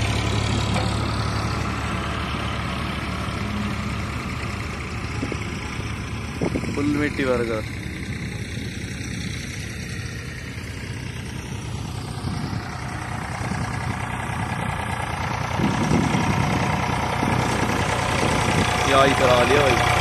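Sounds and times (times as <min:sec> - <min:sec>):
tractor diesel engine: 0:00.0 - 0:20.0.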